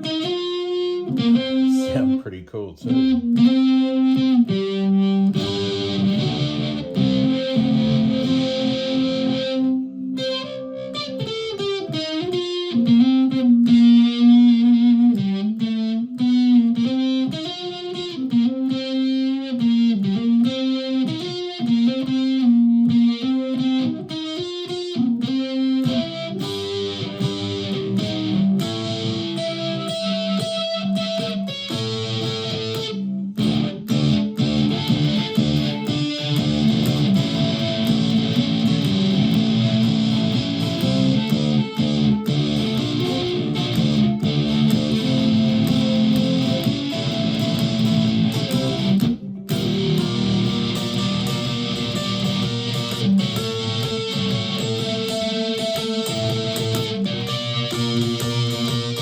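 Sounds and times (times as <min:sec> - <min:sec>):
electric ukulele playing: 0:00.0 - 0:59.0.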